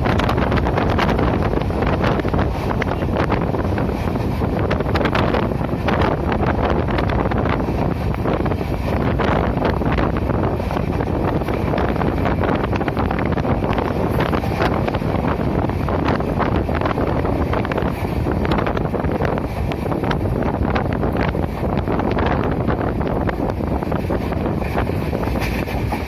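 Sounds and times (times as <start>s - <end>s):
passenger train running: 0.0s - 26.0s
train wheels clicking: 0.0s - 26.0s
wind buffeting microphone: 0.0s - 26.0s.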